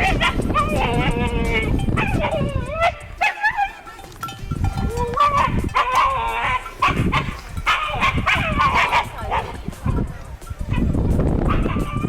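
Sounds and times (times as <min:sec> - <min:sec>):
dog vocalising: 0:00.0 - 0:04.0, 0:04.7 - 0:10.9.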